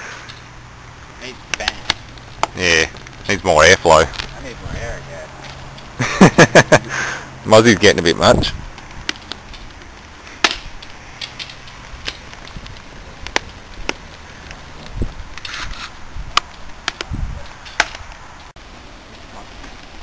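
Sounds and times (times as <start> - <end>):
low steady hiss: 0.0 - 20.0
burning plastic popping and crackling: 0.2 - 7.0, 7.6 - 20.0.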